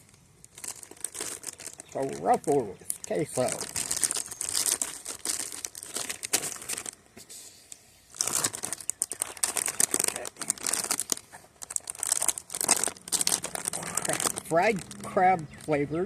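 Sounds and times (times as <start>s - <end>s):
plastic chip bags crumpling: 0.0s - 7.1s, 8.1s - 15.8s.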